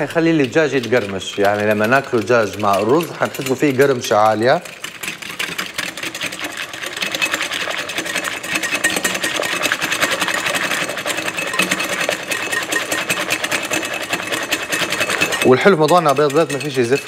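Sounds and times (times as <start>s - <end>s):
whisk clicking on glass bowl: 0.0s - 17.0s.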